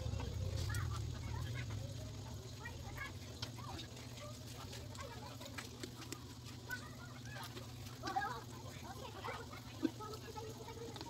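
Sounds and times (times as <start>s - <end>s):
vegetables frying in wok: 0.0s - 11.0s.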